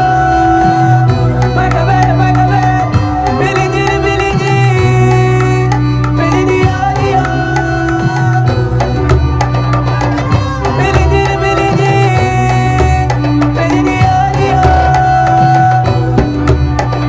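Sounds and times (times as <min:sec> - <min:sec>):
loud dance music: 0:00.0 - 0:17.0.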